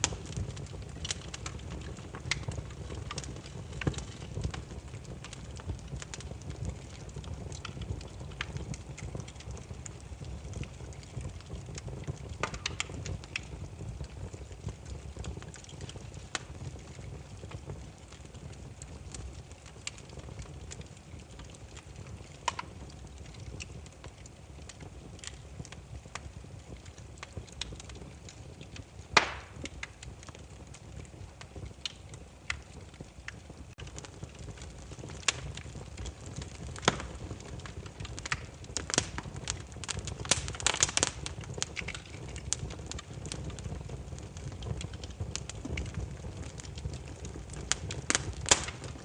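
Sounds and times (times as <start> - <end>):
burning firewood crackling: 0.0 - 49.0.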